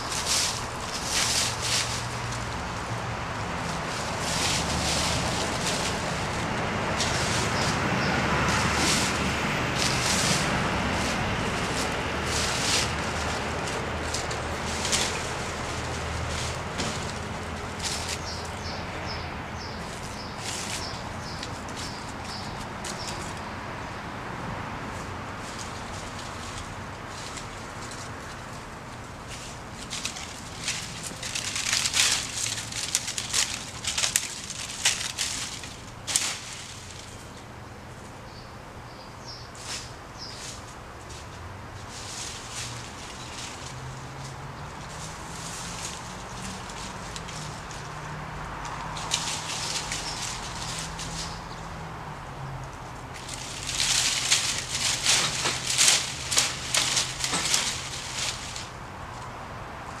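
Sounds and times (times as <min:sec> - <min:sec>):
dry branches crackling: 0:00.0 - 0:38.3, 0:39.2 - 1:00.0.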